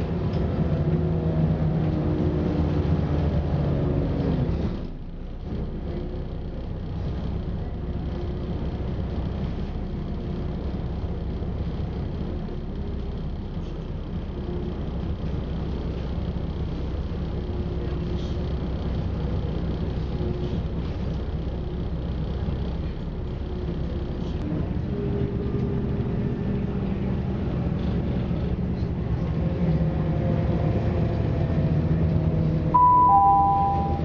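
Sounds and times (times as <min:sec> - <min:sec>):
diesel engine: 0:00.0 - 0:34.0
wheels rumbling on rail: 0:00.0 - 0:34.0.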